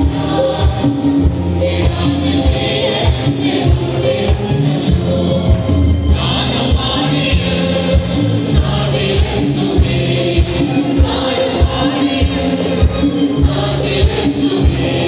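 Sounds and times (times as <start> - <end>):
band playing worship music: 0.0 - 15.0
group singing: 0.0 - 15.0.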